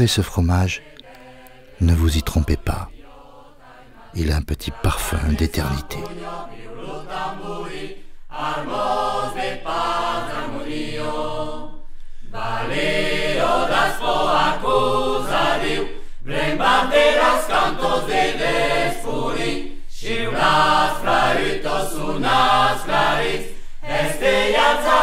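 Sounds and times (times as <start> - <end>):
unaccompanied choir singing: 0.6 - 25.0.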